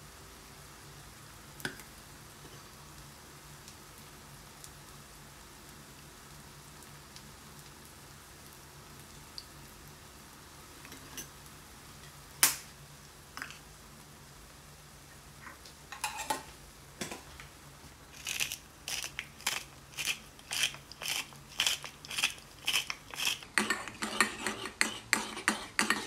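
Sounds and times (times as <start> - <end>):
steady low hiss: 0.0 - 26.0.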